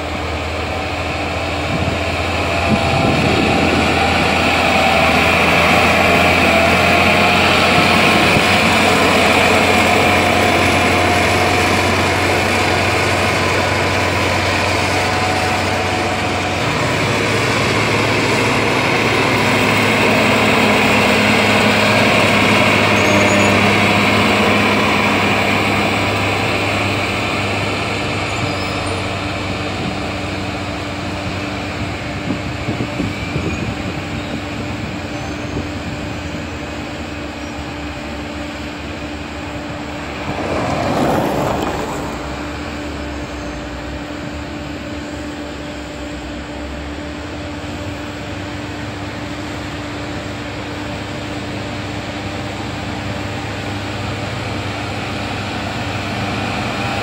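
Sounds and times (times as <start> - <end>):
diesel engines of graders running: 0.0 - 57.0.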